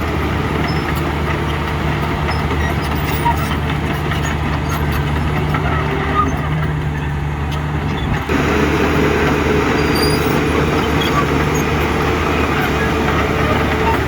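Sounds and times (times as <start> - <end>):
diesel engine of heavy machinery: 0.0 - 14.0.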